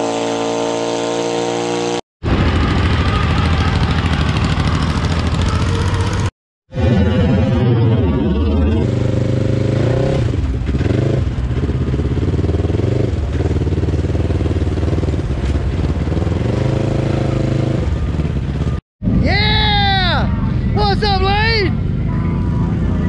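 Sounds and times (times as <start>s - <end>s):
off-road vehicle engine revving: 0.0s - 19.3s.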